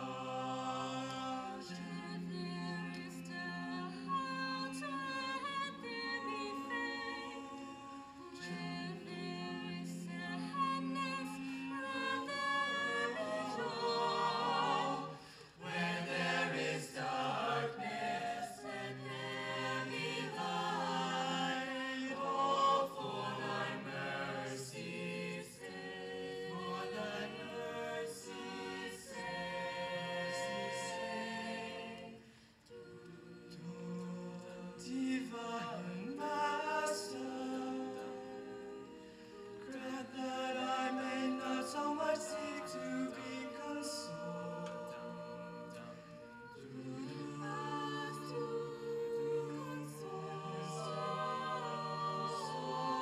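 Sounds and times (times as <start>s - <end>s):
vocal group singing in harmony: 0.0s - 53.0s.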